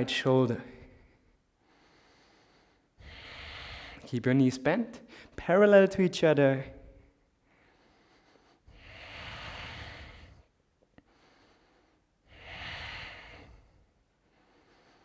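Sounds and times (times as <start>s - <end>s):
man breathing deeply: 0.7s - 4.1s, 5.0s - 5.4s, 6.7s - 15.0s.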